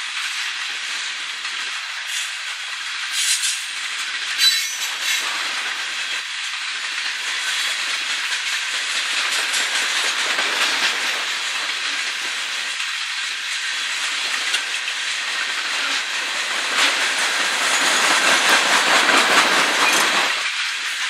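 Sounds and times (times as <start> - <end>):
steel wheels rushing on rails: 0.0 - 21.0.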